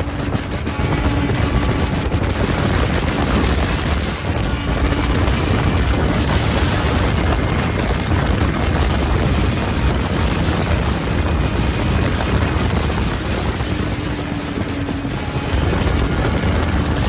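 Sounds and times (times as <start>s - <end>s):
motorcycle engine at speed: 0.0s - 17.0s
wind noise: 0.0s - 17.0s.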